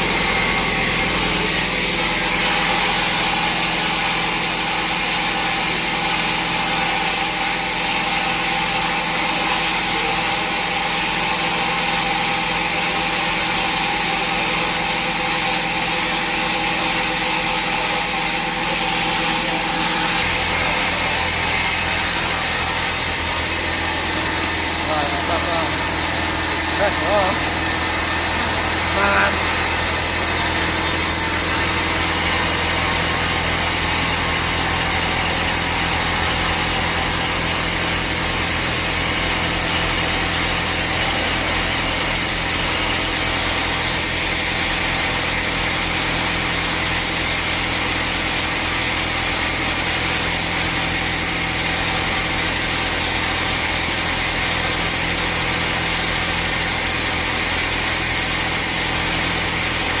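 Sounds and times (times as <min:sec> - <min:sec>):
bandsaw machinery humming: 0:00.0 - 1:00.0.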